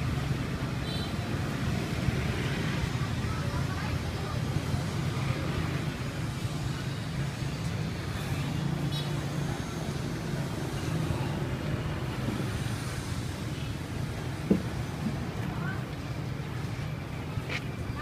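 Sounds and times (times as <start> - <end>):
low rumble of passing vehicles: 0.0 - 18.0.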